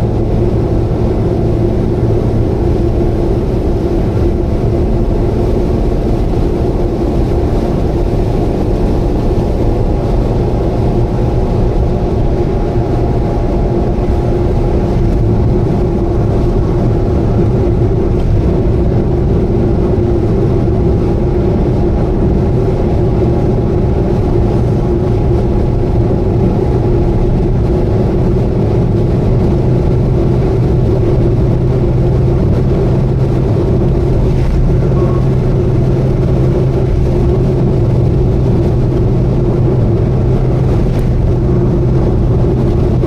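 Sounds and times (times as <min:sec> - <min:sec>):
car engine humming: 0:00.0 - 0:43.0
low hum: 0:00.0 - 0:43.0
road noise: 0:00.0 - 0:43.0.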